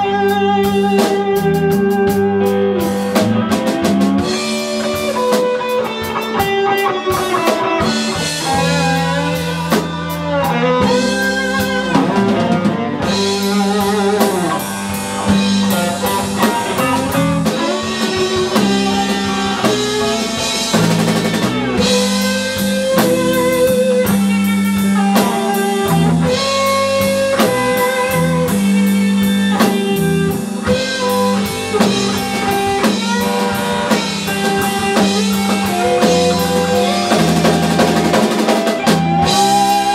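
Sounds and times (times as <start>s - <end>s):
drum kit: 0.0s - 39.9s
lead electric guitar melody: 0.0s - 39.9s
live band playing: 0.0s - 39.9s
rhythm guitar: 0.0s - 39.9s.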